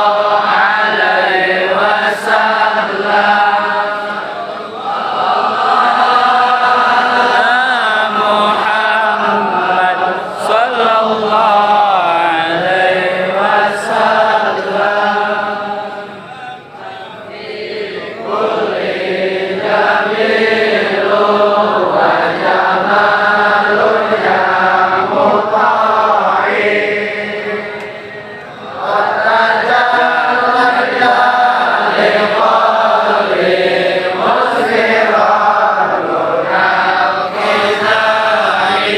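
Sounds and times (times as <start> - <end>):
voices chanting melodically: 0.0 - 38.9.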